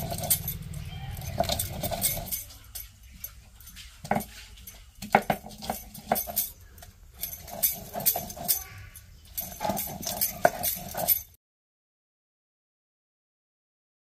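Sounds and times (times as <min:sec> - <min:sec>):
grinding stone knocking and scraping: 0:00.0 - 0:11.4.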